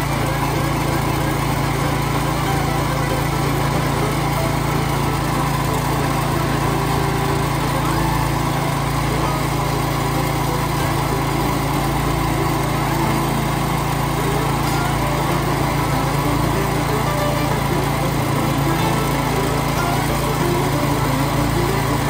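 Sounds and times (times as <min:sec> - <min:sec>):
small gasoline engine running: 0:00.0 - 0:22.0.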